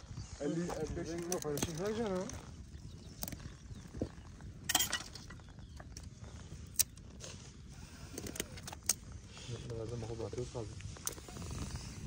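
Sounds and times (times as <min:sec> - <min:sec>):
fire crackling and popping: 0:00.0 - 0:12.0
low fire rumble: 0:00.0 - 0:12.0.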